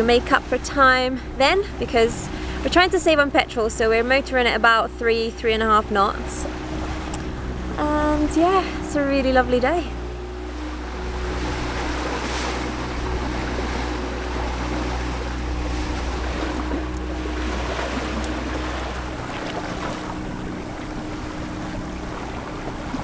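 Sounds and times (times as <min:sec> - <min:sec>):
boat engine droning: 0:00.0 - 0:23.0
water rushing along hull: 0:00.0 - 0:23.0
wind: 0:00.0 - 0:23.0.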